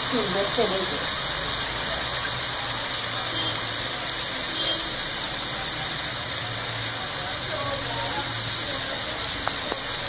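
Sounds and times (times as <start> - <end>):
meat frying sizzling: 0.0 - 10.0.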